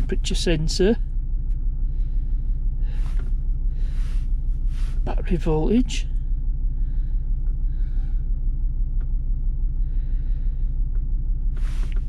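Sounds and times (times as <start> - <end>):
diesel car engine idling: 0.0 - 12.0.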